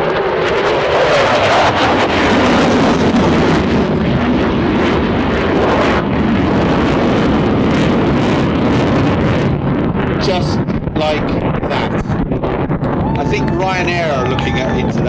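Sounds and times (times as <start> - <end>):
loud crackly jet engine noise: 0.0 - 15.0.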